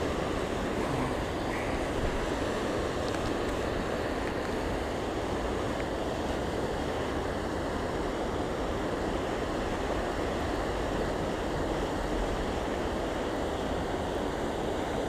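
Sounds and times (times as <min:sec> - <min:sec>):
fast river current rushing: 0:00.0 - 0:15.0.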